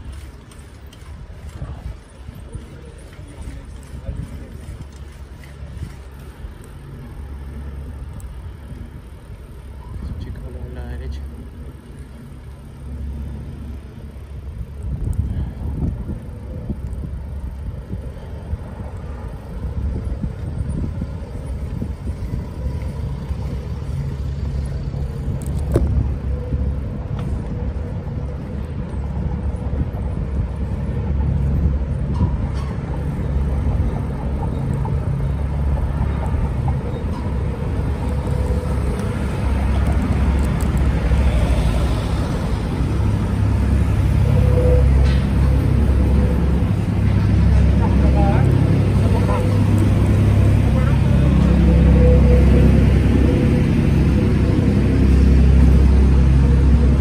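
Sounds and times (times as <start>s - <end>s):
wind buffeting microphone: 0.0s - 10.5s, 14.3s - 57.0s.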